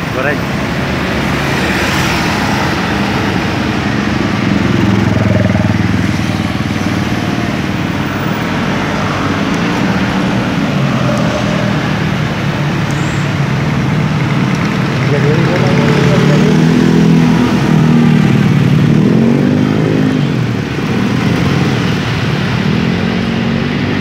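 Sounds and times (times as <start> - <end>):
trucks rumbling past: 0.0 - 24.0
motorcycle passing: 0.6 - 24.0.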